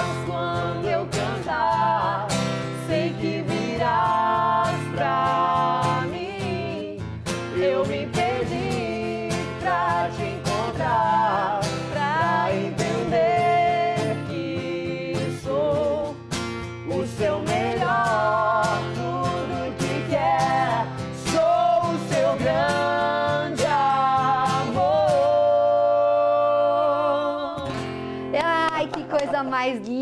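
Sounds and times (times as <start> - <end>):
woman singing: 0.0 - 16.2, 16.8 - 30.0
guitar accompaniment: 0.0 - 30.0.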